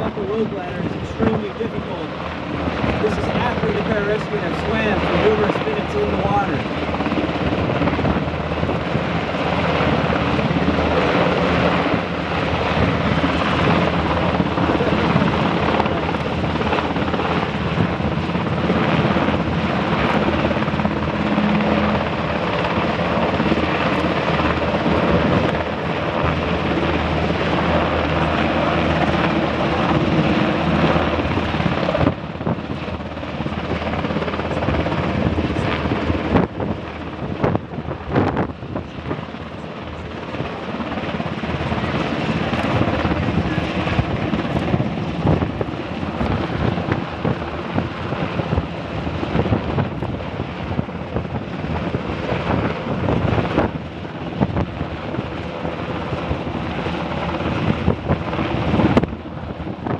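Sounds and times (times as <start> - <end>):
helicopter rotor and turbine noise: 0.0 - 59.9.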